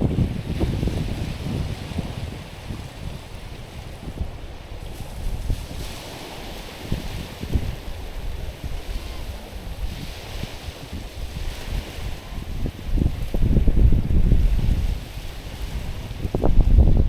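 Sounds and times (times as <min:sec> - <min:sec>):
waves lapping over stones: 0:00.0 - 0:17.0
wind buffeting microphone: 0:00.0 - 0:17.0.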